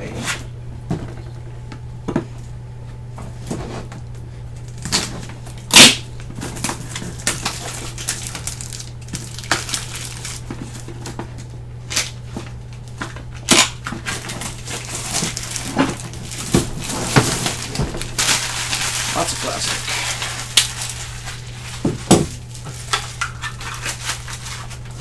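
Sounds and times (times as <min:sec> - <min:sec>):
steady low hum: 0:00.0 - 0:25.0
packaging rustling and crinkling: 0:04.6 - 0:25.0.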